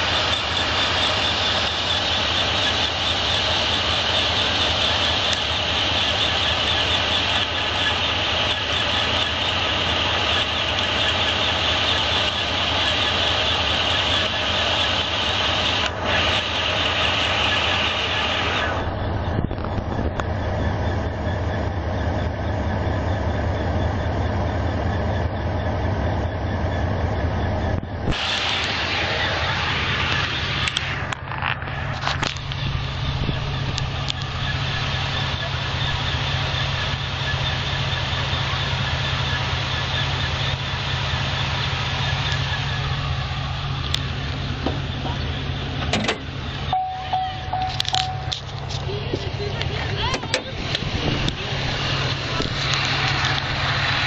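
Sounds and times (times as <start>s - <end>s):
car engine idling: 0.0s - 54.0s
high-pitched whine: 0.0s - 54.0s.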